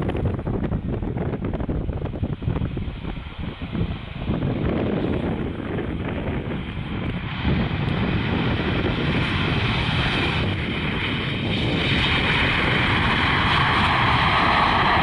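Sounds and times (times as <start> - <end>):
jet engines roaring: 0.0 - 15.0
wind rumble on microphone: 0.0 - 15.0.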